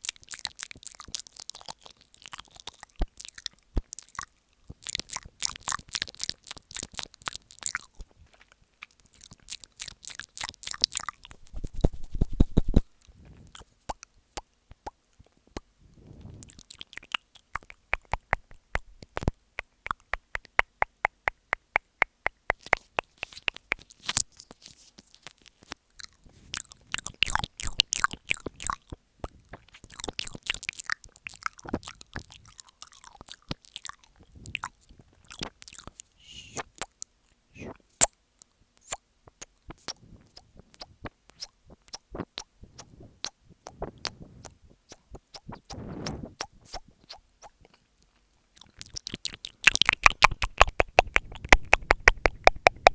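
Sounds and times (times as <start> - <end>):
wet mouth clicks and smacks: 0.0 - 15.7, 16.4 - 52.9.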